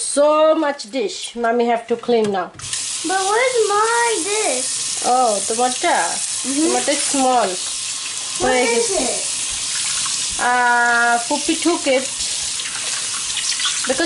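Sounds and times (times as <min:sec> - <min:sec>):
faucet water splashing into sink: 0:02.6 - 0:14.0.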